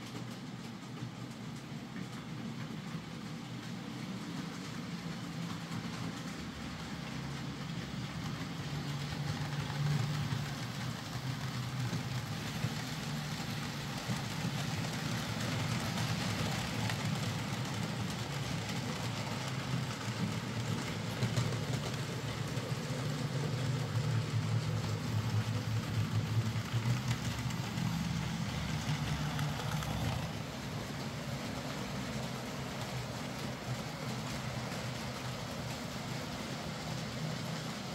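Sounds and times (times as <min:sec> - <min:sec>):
model train wheels on track: 0:00.0 - 0:37.9.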